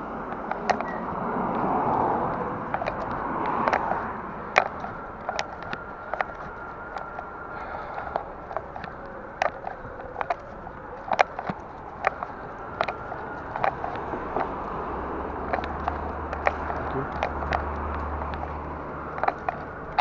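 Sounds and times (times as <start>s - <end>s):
bicycle clicks and rattles: 0.0s - 20.0s.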